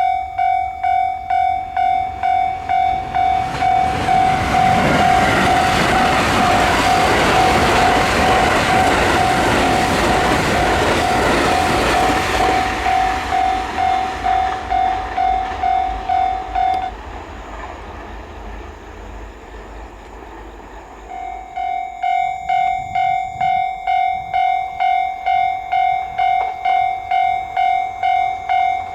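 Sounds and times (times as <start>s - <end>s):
level crossing warning bell: 0.0s - 17.0s, 21.1s - 28.9s
train rumbling past: 0.0s - 28.9s.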